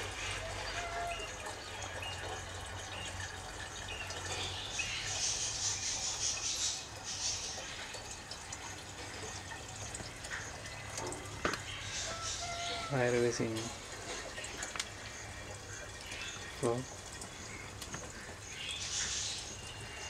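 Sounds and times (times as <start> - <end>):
tap water running: 0.0 - 20.0.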